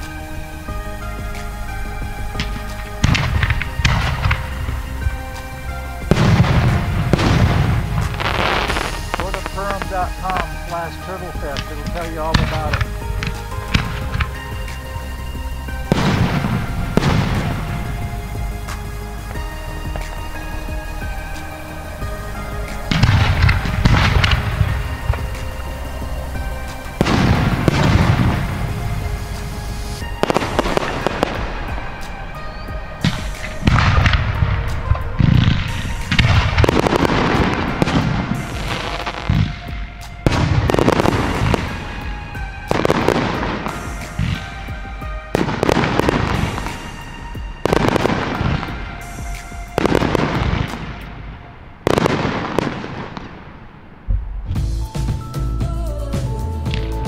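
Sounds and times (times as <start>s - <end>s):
fireworks bursting and crackling: 0.0s - 55.3s
music: 0.0s - 57.0s.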